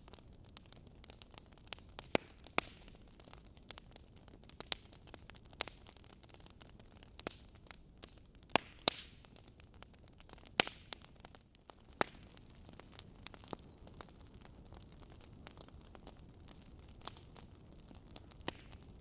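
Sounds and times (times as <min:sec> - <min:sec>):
fire popping and snapping: 0:00.0 - 0:19.0
logs crackling in fireplace: 0:00.0 - 0:19.0.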